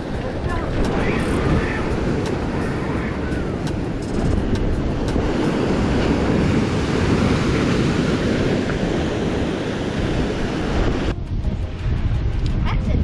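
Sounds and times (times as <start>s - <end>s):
ocean waves breaking on rocks: 0.0s - 13.0s
wind buffeting microphone: 0.0s - 13.0s.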